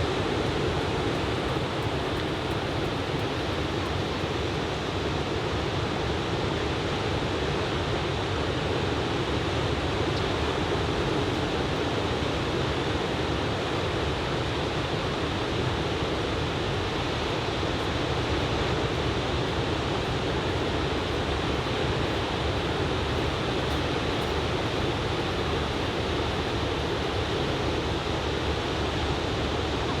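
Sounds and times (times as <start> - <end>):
ocean surf on beach: 0.0 - 30.0.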